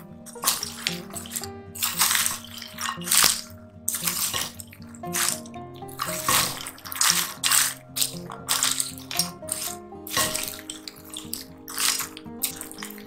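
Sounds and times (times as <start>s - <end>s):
background music soft notes: 0.0s - 13.0s
popcorn rustling in a bowl: 0.3s - 13.0s.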